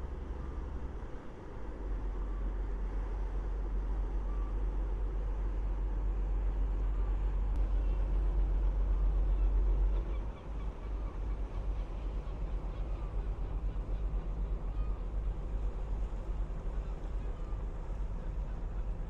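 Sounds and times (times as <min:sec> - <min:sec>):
boat diesel engine rumbling: 0:00.0 - 0:19.0.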